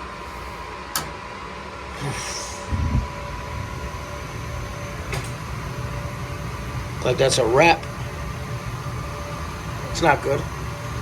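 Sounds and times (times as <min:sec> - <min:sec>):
gas boiler low rumble: 0:00.0 - 0:11.0.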